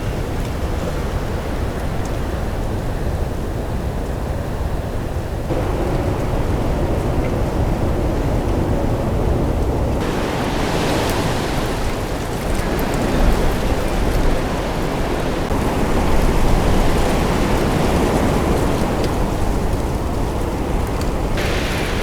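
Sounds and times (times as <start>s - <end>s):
rushing wind hiss: 0.0s - 22.0s
wind buffeting microphone: 0.0s - 22.0s.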